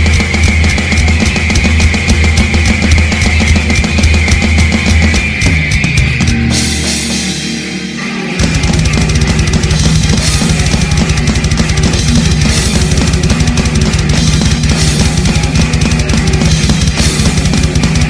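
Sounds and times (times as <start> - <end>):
heavy metal music with fast drumming: 0.0 - 18.0.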